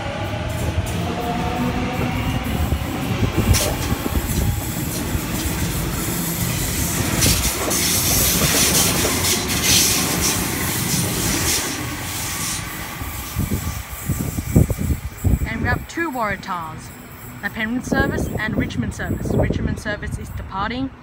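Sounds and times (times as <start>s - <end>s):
electric train rolling past: 0.0s - 21.0s
steel wheels rumbling on rail: 0.0s - 21.0s.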